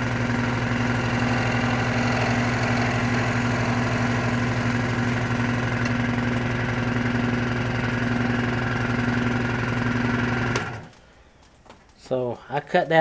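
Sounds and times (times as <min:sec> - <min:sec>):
power tool cutting plastic: 0:00.0 - 0:11.0.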